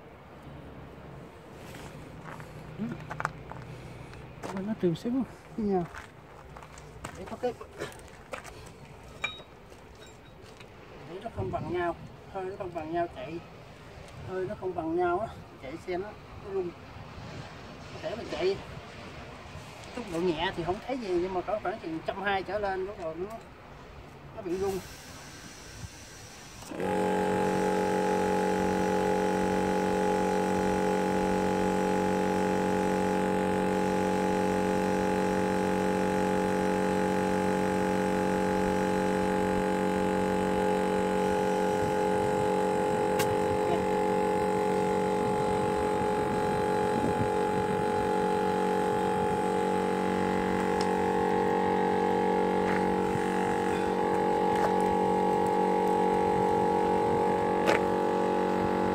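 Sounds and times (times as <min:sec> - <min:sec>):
air compressor humming: 0:00.0 - 0:22.8, 0:24.3 - 0:58.9.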